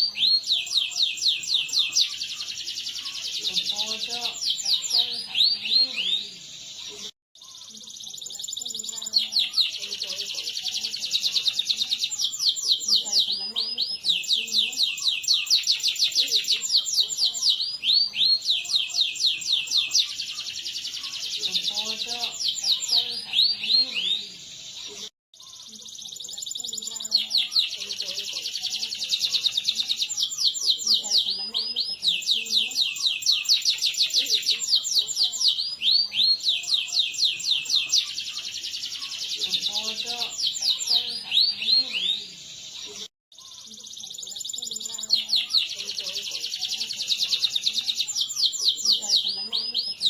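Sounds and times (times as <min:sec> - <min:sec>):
canary singing trills: 0:00.0 - 0:50.0.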